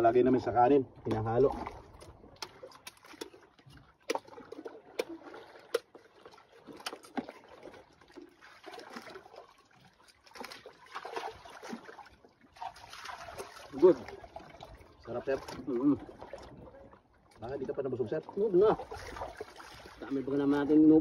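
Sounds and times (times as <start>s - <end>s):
faint watery background: 0.0s - 21.0s.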